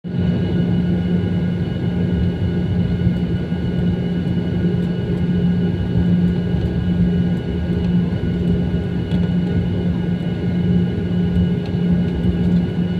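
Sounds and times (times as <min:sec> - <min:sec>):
jet engines rumbling and whining: 0:00.1 - 0:12.9.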